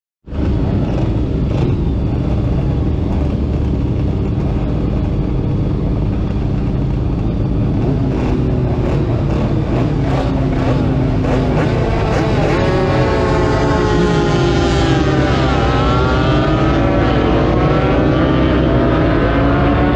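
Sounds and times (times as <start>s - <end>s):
motorcycle engine revving: 0.3s - 19.9s.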